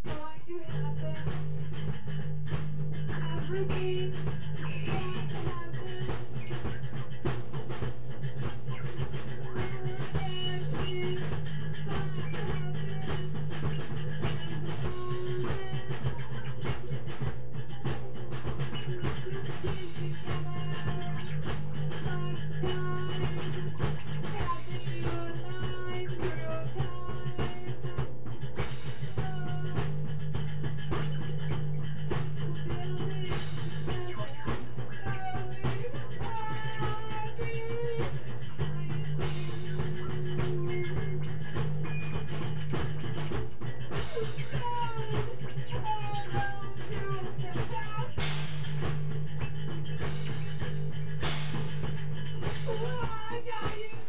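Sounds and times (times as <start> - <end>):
drum beat: 0.0 - 54.0
low bass notes: 0.0 - 54.0.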